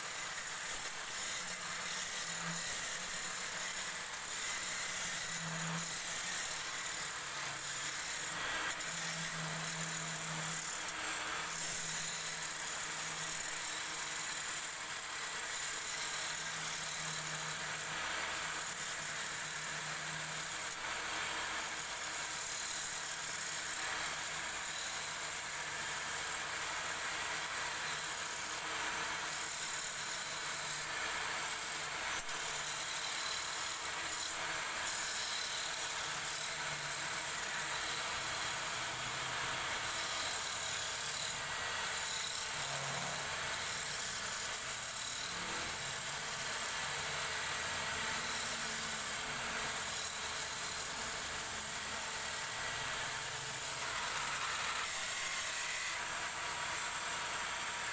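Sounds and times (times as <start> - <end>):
chisel cutting spinning wood: 0.0 - 57.9
wood lathe running: 0.0 - 57.9.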